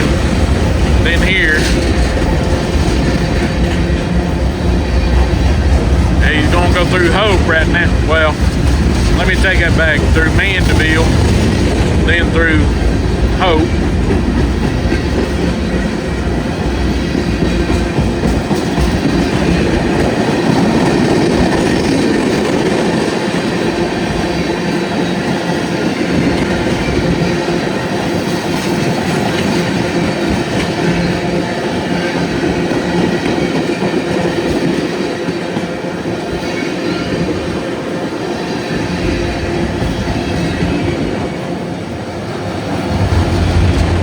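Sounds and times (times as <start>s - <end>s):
freight train cars rolling past: 0.0s - 44.0s.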